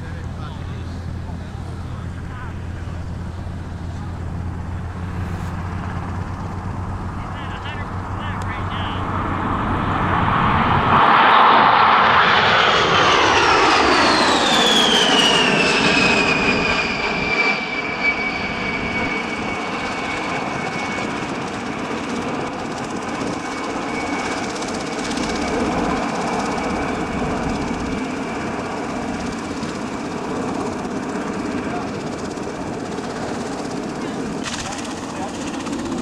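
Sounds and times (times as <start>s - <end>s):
jet engine whine dropping in pitch: 0.0s - 36.0s
jet roar: 0.0s - 36.0s.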